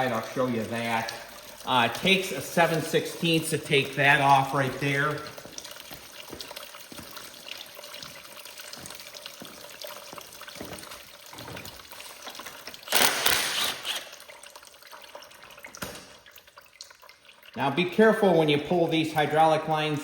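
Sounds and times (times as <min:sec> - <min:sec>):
liquid trickling into a pan: 0:00.0 - 0:20.0.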